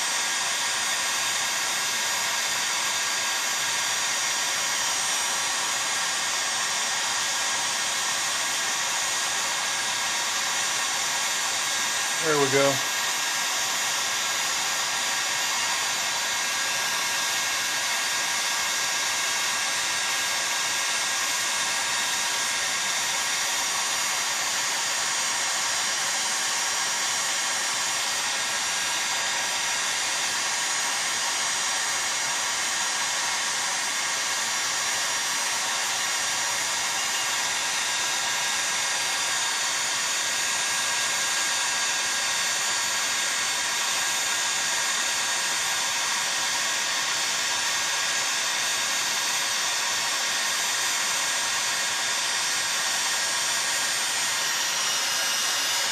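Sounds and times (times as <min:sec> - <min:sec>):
heat gun blowing: 0:00.0 - 0:55.9.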